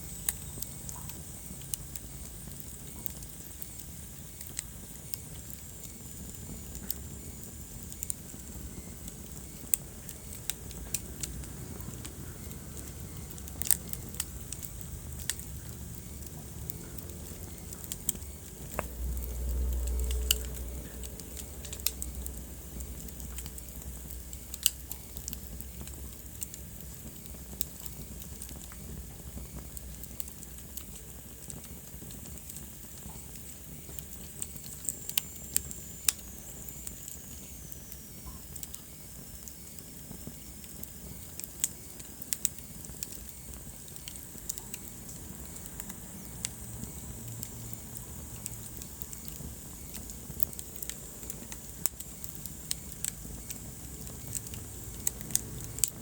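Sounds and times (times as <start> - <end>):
low rumble of fire: 0.0 - 56.0
wood fire crackling: 0.0 - 56.0.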